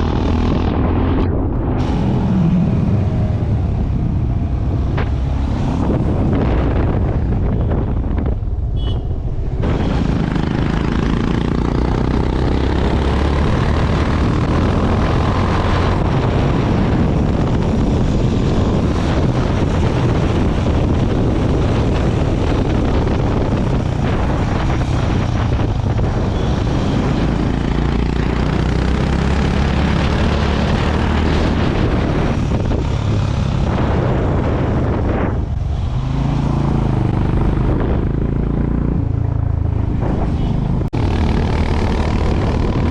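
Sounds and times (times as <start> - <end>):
wind and road noise: 0.0 - 42.9.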